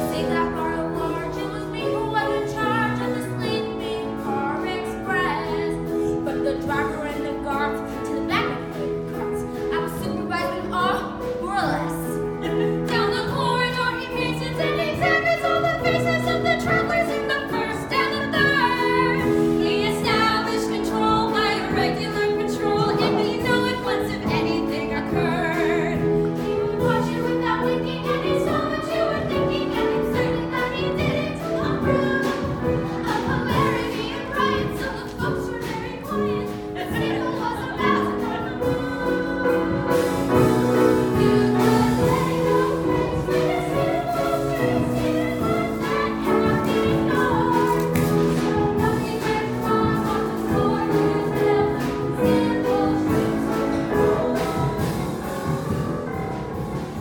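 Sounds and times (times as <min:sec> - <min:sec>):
musical accompaniment: 0:00.0 - 0:57.0
group of young voices singing: 0:10.7 - 0:57.0.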